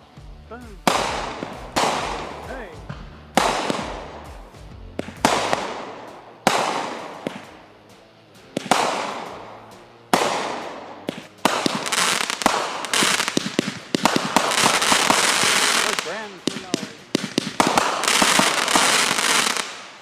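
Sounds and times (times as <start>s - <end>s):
fireworks bangs: 0.0s - 20.0s
fireworks crackling pops: 0.0s - 20.0s.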